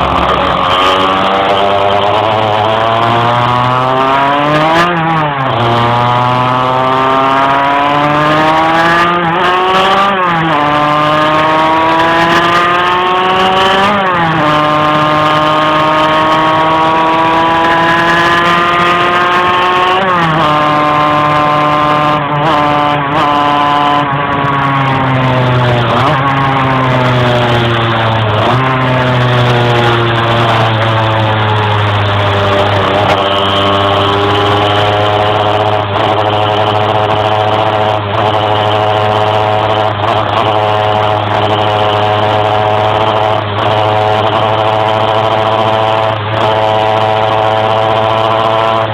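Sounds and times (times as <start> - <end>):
moped engine revving: 0.0 - 48.9.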